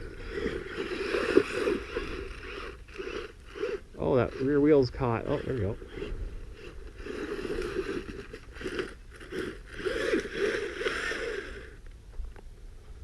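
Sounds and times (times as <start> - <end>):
tires crunching through soil: 0.0 - 11.8
toy truck electric motor whining: 0.0 - 11.9.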